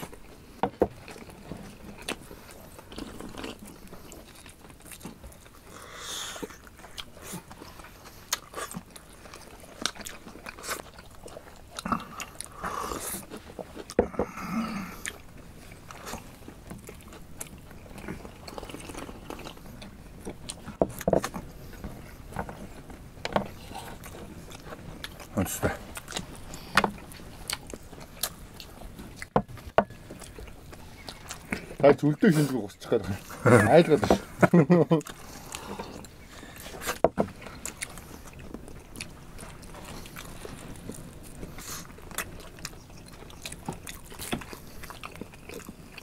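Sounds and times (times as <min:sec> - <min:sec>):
people biting and chewing meat: 0:00.0 - 0:46.0.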